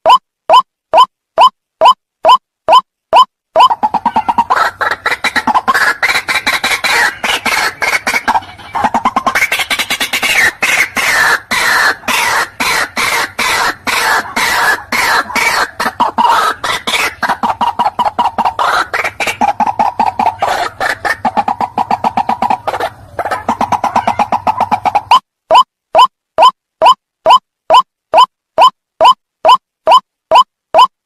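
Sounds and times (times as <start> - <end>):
bird calling harsh notes: 3.6 - 30.9.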